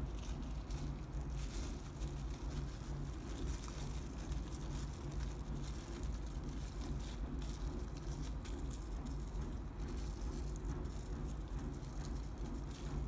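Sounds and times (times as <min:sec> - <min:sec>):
cling film crinkling: 0:00.0 - 0:13.0
steady low hum: 0:00.0 - 0:13.0.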